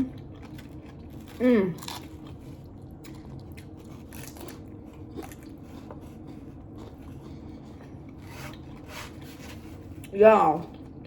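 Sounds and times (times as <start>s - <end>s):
person chewing crunchy food: 0.0s - 9.2s.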